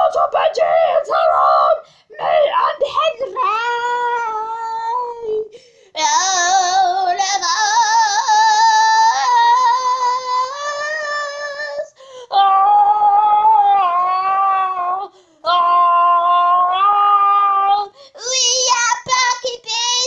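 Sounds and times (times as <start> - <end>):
child singing with vibrato: 0.0 - 20.0.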